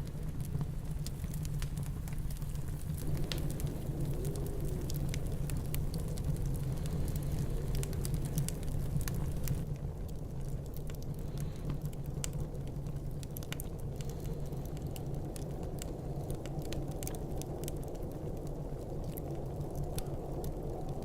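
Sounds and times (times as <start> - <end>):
fireplace crackling: 0.0 - 21.0
snowstorm wind rumble: 0.0 - 21.0
wood fire popping: 0.0 - 21.0.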